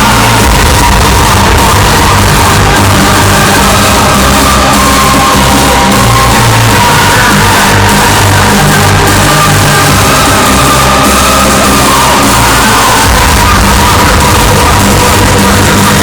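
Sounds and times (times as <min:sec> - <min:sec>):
crowd shouting and whooping: 0:00.0 - 0:16.0
loud hardstyle music: 0:00.0 - 0:16.0.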